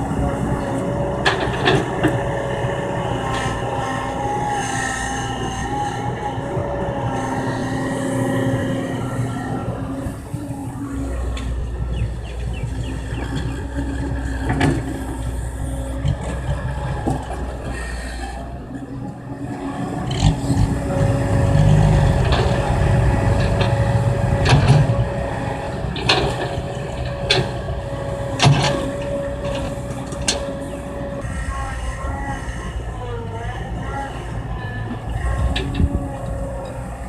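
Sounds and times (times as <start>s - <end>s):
excavator diesel engine: 0.0s - 37.0s.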